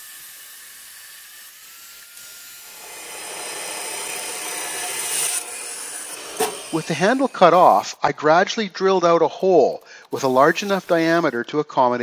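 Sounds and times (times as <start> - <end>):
chop saw grinding steel: 0.0 - 8.0, 9.4 - 11.5.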